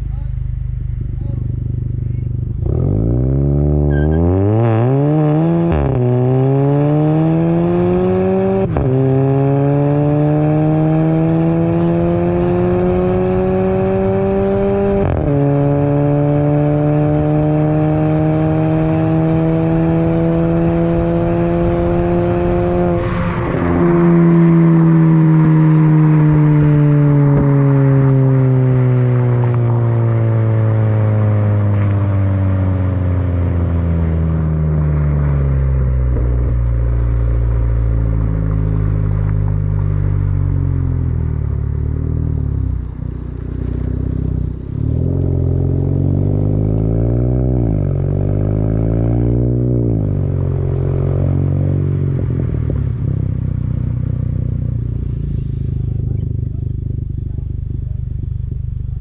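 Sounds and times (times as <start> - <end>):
car exhaust engine drone: 0.0 - 59.0.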